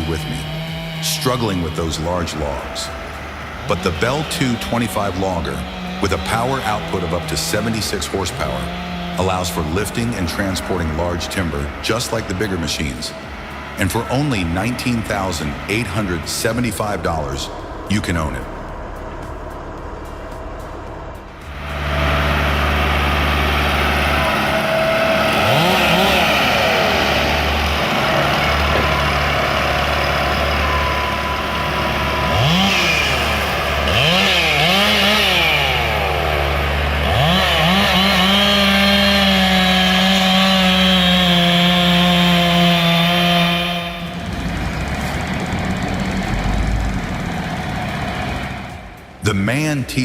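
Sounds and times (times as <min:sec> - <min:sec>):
chainsaw engine revving: 0:00.0 - 0:49.3.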